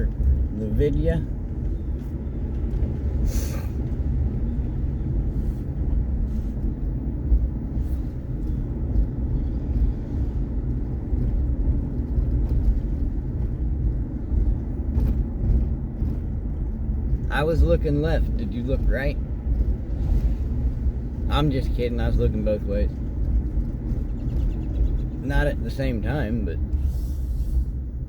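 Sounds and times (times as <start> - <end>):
road and engine rumble in cabin: 0.0 - 28.0.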